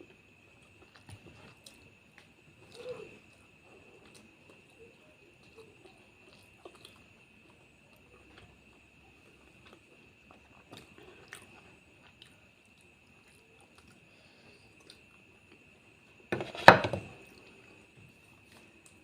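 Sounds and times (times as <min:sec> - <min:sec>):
quiet chewing and mouth clicks: 0:00.0 - 0:16.3, 0:17.2 - 0:19.0.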